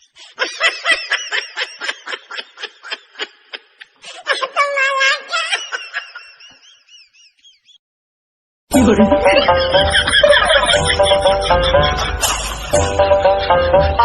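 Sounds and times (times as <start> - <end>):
high-pitched snickering laugh: 0.3 - 7.7, 9.2 - 13.7.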